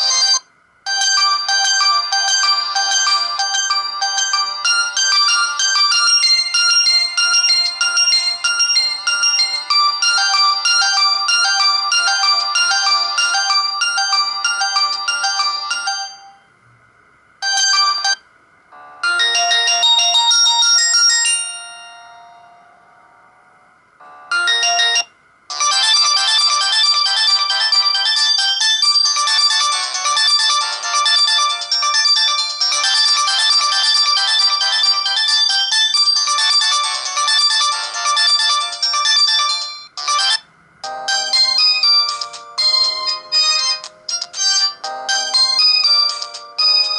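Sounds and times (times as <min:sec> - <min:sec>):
electronic phone ringtone melody: 0:00.0 - 0:16.5, 0:17.4 - 0:18.2, 0:18.8 - 0:23.2, 0:24.0 - 0:46.9.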